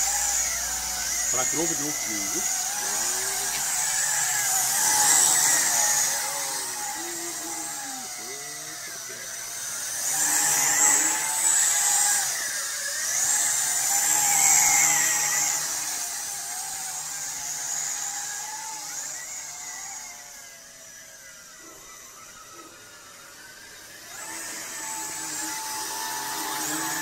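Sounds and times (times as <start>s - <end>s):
toy drone motors whining: 0.0s - 27.0s.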